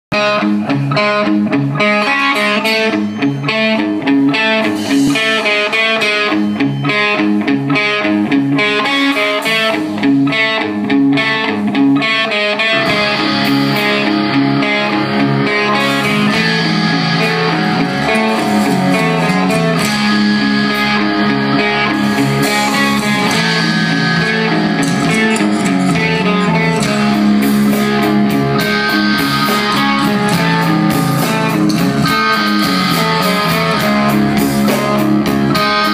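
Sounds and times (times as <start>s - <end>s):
rock band playing: 0.1s - 35.9s.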